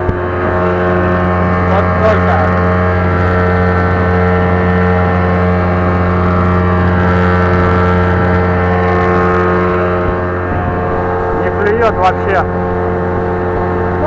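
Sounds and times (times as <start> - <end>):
engine droning steadily: 0.0 - 14.0.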